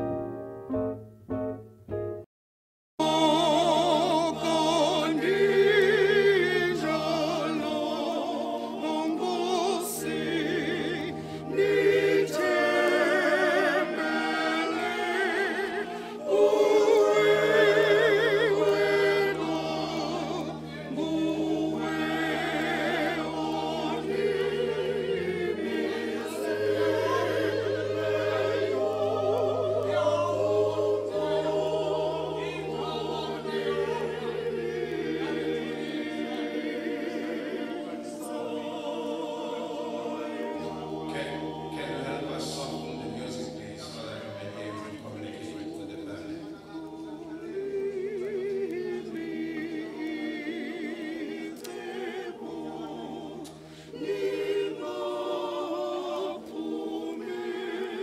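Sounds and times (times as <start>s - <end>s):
choir singing: 3.0s - 58.0s.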